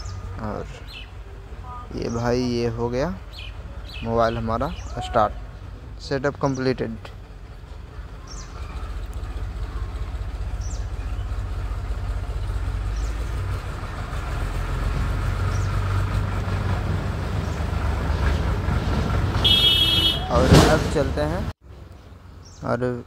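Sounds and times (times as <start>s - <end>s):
machine rumble: 0.0s - 20.0s.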